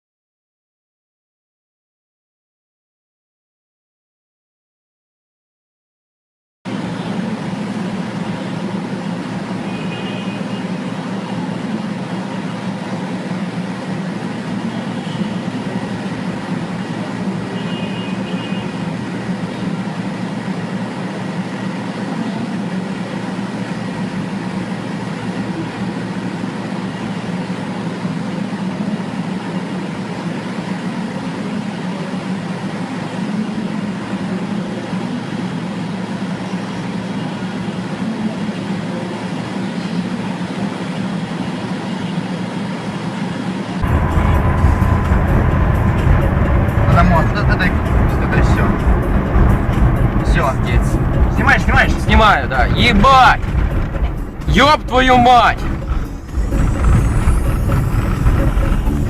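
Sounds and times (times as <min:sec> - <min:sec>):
road noise: 0:06.7 - 0:59.0
vehicle engine drone: 0:06.7 - 0:59.0.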